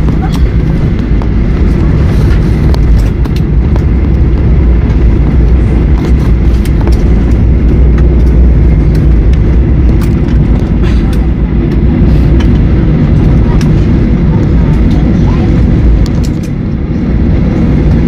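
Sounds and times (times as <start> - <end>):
aircraft cabin low rumble: 0.0 - 18.0.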